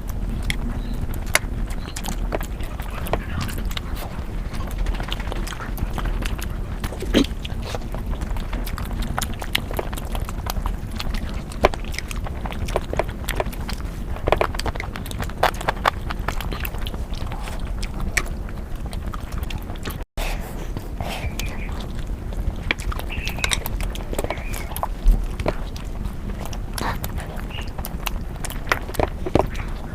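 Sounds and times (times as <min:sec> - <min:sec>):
chewing and biting: 0:00.0 - 0:29.9
mouth clicks and smacks: 0:00.0 - 0:29.9
steady low hum: 0:00.0 - 0:29.9.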